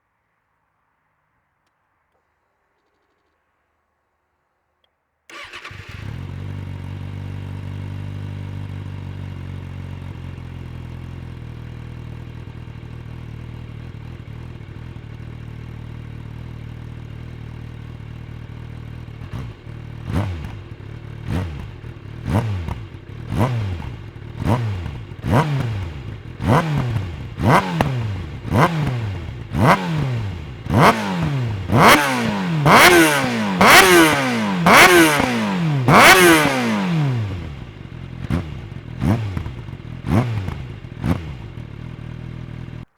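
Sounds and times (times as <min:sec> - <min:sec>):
motorcycle engine idling: 0:05.3 - 0:42.9
motorcycle throttle revs: 0:05.3 - 0:42.9.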